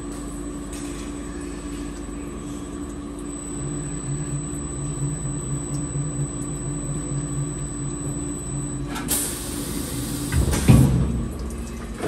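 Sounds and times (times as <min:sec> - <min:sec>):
deeper hum: 0:00.0 - 0:12.0.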